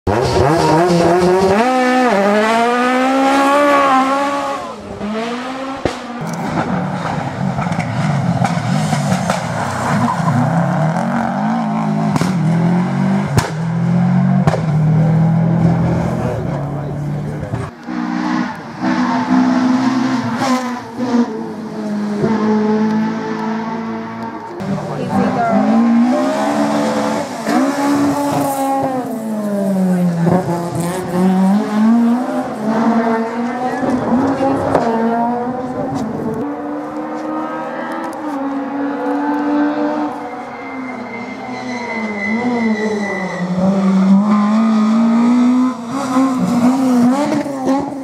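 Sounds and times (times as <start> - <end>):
rally car engine accelerating: 0.1 - 48.0.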